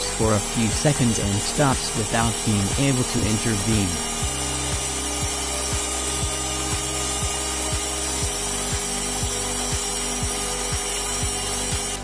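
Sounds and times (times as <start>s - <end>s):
backing music with beat: 0.0s - 12.0s
handheld vacuum cleaner running: 0.0s - 12.0s.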